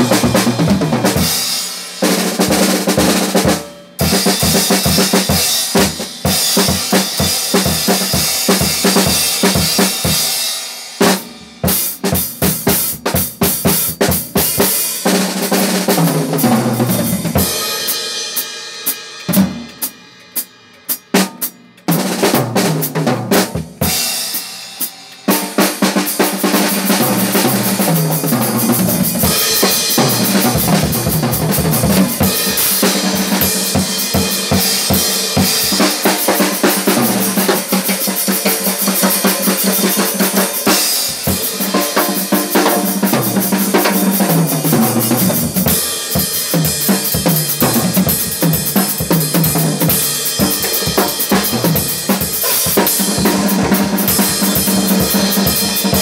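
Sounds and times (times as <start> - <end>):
drum kit playing: 0.0 - 56.0.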